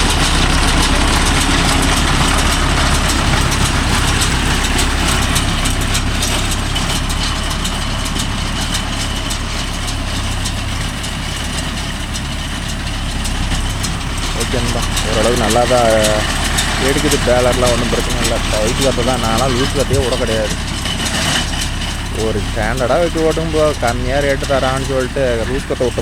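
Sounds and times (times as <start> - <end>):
baler picking up crop: 0.0 - 26.0
tractor diesel engine running: 0.0 - 26.0.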